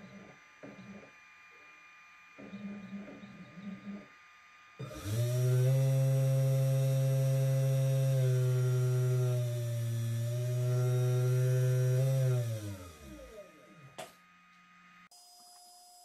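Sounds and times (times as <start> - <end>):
spindle motor humming: 0.0 - 15.1.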